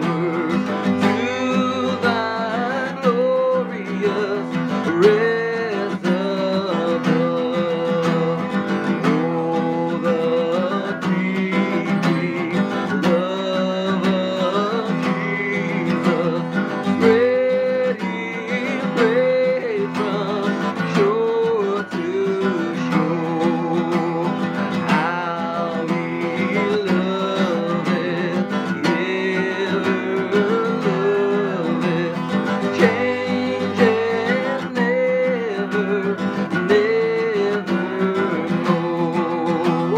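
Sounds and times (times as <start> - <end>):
acoustic guitar playing hymn: 0.0 - 39.9.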